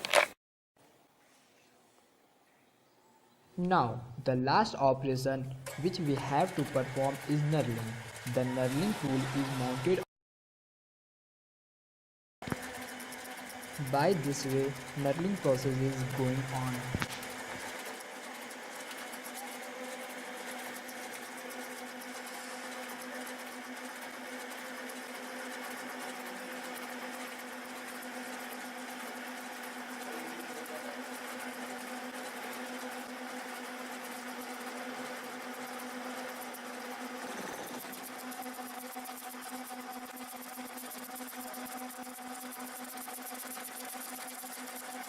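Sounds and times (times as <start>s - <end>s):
lathe humming with rapid buzz: 5.6s - 10.0s, 12.4s - 45.0s.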